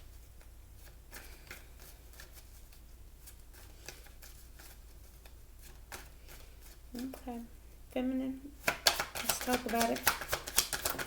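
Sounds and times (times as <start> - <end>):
cards being shuffled: 0.0 - 7.3, 8.6 - 11.0.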